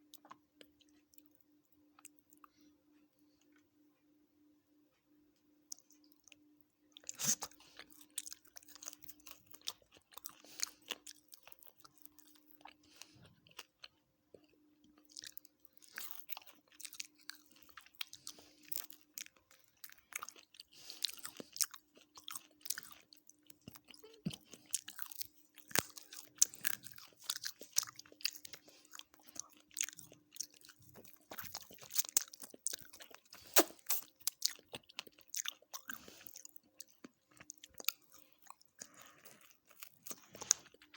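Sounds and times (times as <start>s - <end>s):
person chewing and crunching food: 0.0s - 3.6s, 5.6s - 40.9s
faint steady hum: 0.0s - 40.9s.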